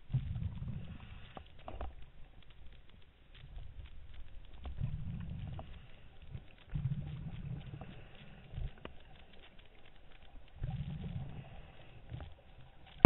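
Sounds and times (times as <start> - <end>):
underwater exhaled bubbles rumbling: 0.0 - 2.4, 3.4 - 13.0
faint ticks: 0.0 - 13.0.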